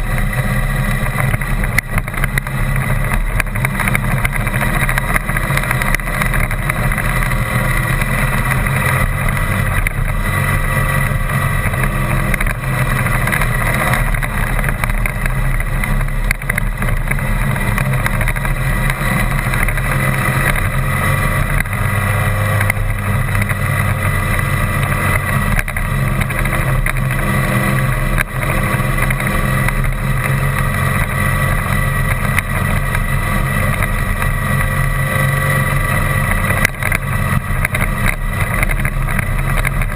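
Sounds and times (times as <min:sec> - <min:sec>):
vehicle engine: 0:00.0 - 0:39.9.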